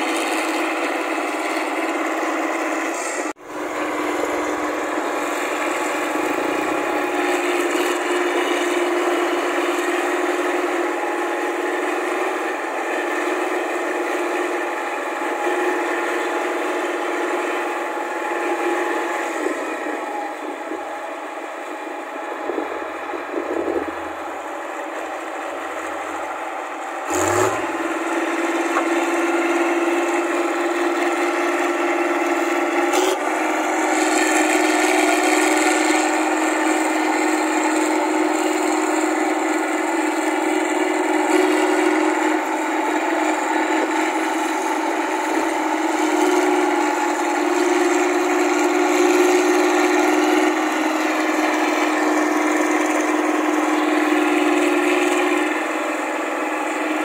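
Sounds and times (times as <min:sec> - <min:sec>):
combine harvester clatter and hum: 0:00.0 - 0:57.0.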